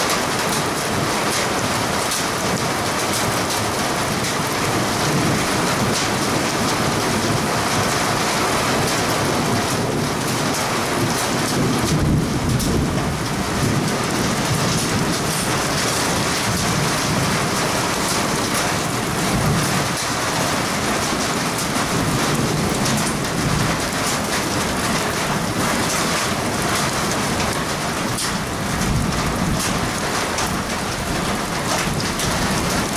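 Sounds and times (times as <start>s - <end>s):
heavy rain falling: 0.0s - 32.9s
low rumbles of thunder: 4.2s - 32.9s.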